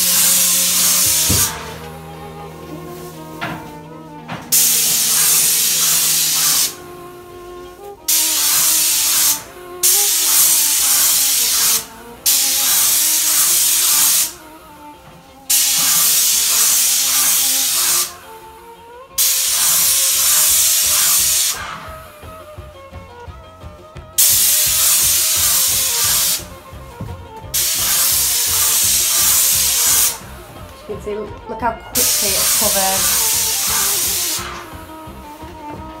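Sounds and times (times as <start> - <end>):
paint sprayer hissing: 0.0 - 7.0, 7.8 - 22.9, 24.2 - 30.8, 32.0 - 35.9.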